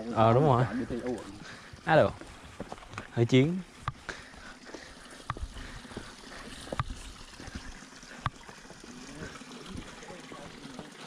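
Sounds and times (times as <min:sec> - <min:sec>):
faint trickle of creek water: 0:00.0 - 0:11.0
footsteps on forest trail: 0:01.1 - 0:10.0.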